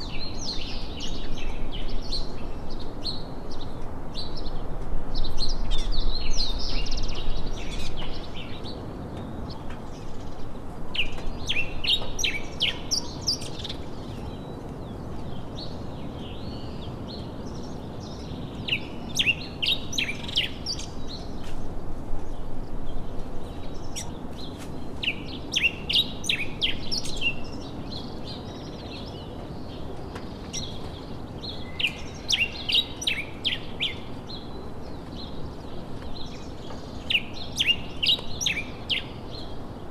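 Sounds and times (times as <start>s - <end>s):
birds chirping: 0.0s - 39.9s
low background noise: 0.0s - 39.9s.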